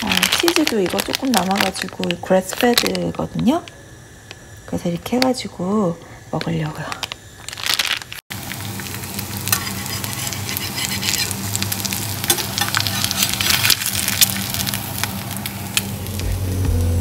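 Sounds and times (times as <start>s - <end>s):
eggs sizzling in oil: 0.0s - 17.0s
low steady hum: 0.0s - 17.0s.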